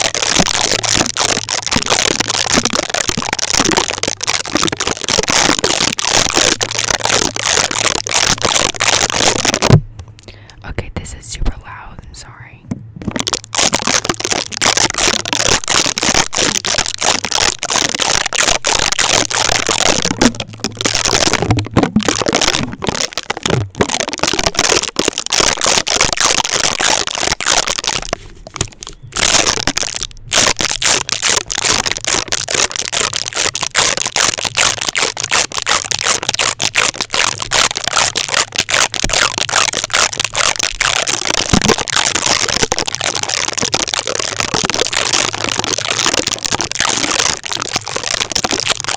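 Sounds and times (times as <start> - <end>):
adhesive tape crackling on microphone: 0.0 - 11.3, 12.7 - 48.9.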